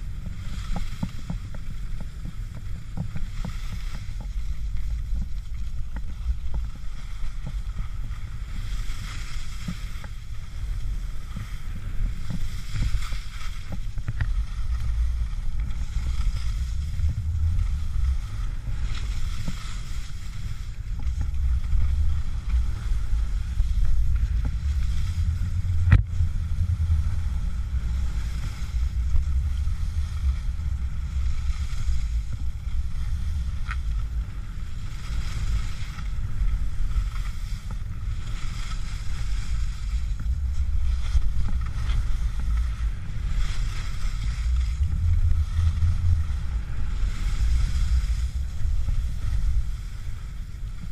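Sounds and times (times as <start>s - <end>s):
skis sliding on snow: 0.0s - 50.9s
wind buffeting microphone: 0.0s - 50.9s.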